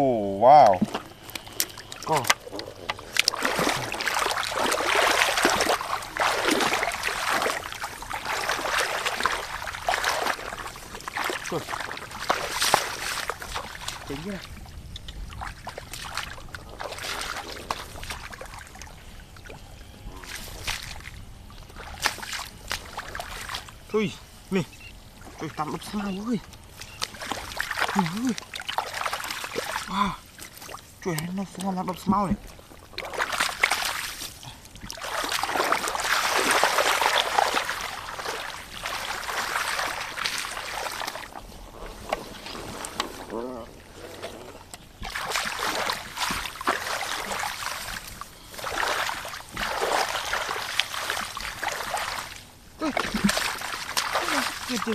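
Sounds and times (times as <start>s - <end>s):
hands splashing in muddy water: 0.7s - 14.4s, 15.0s - 18.9s, 20.2s - 23.7s, 26.5s - 31.8s, 32.5s - 54.9s.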